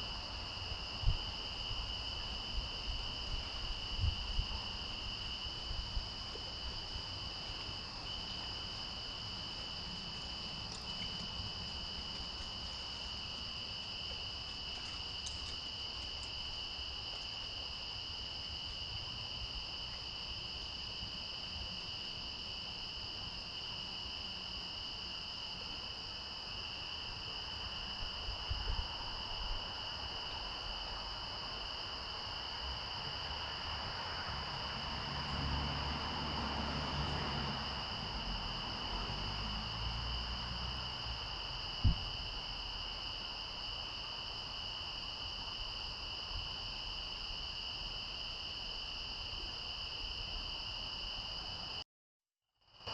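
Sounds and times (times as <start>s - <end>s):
insect chorus trilling: 0.0s - 51.8s.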